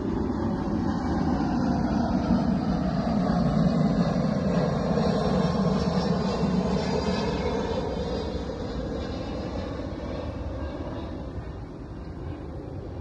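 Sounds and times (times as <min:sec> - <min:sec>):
aircraft engine rumble overhead: 0:00.0 - 0:13.0.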